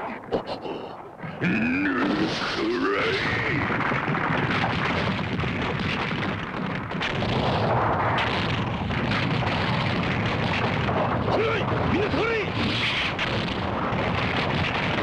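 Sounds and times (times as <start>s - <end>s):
cartoon rockslide rumble: 0.0s - 15.0s.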